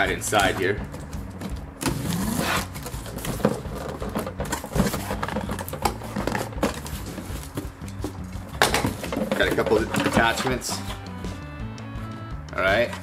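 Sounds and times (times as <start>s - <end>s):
cardboard rustling: 0.3s - 11.0s.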